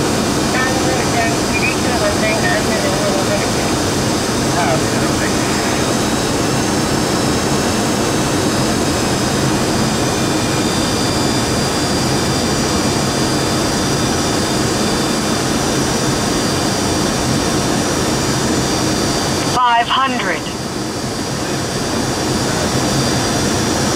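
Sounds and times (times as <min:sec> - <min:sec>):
high jet engine whine: 0:00.0 - 0:23.9.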